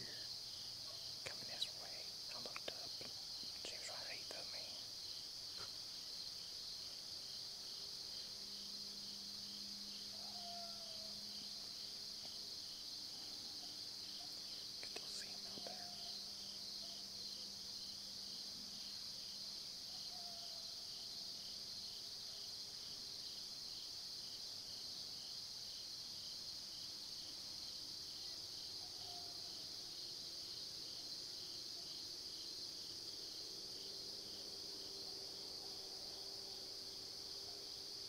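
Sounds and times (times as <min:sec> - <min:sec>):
high-pitched insect trill: 0:00.0 - 0:38.0
pulsing insect chirp: 0:00.0 - 0:38.0.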